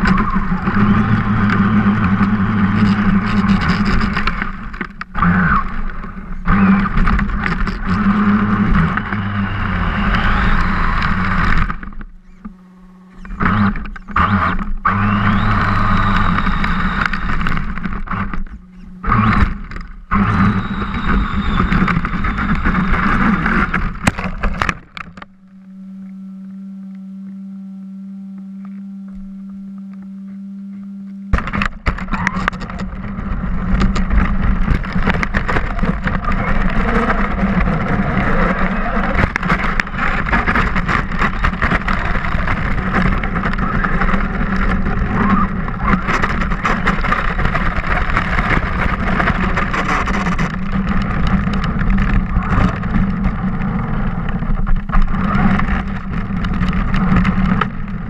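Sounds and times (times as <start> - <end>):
rc car motor rushing: 0.0 - 25.2, 31.3 - 58.0
low hum: 0.0 - 58.0.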